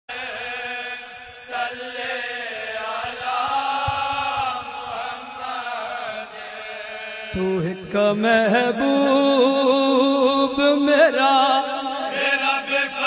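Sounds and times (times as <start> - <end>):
men's chorus chanting in unison: 0.1 - 13.0.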